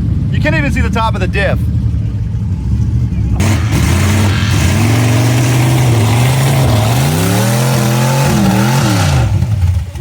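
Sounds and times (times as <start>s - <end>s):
off-road vehicle engine revving: 1.7s - 10.0s.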